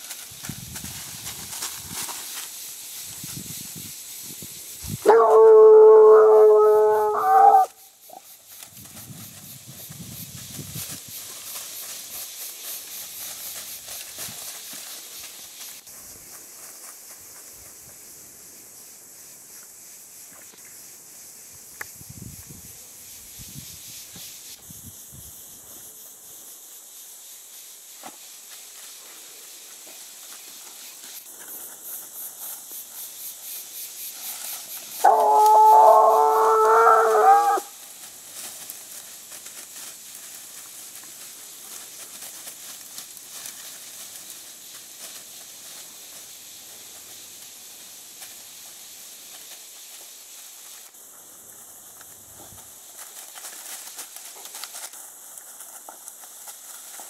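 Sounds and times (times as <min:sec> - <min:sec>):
rustling in dry leaves: 0:00.0 - 0:57.0.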